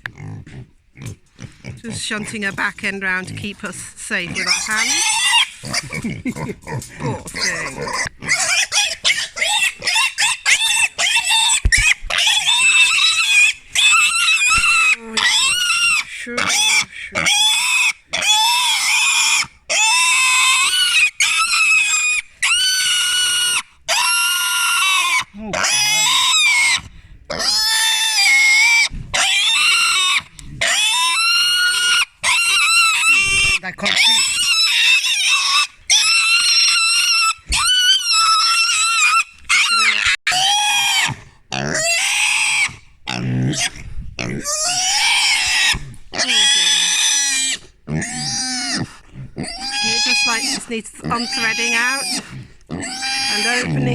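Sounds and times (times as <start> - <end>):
piglet squealing: 3.4 - 53.9.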